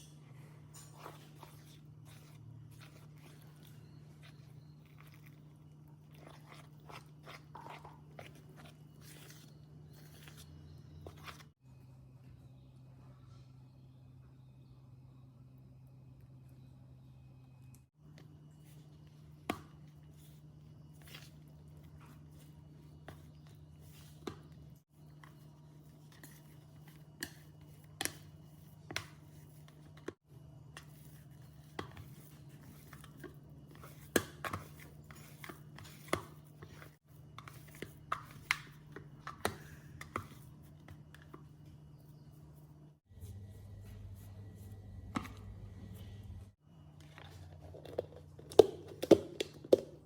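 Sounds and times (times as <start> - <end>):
steady low hum: 0.0 - 48.4.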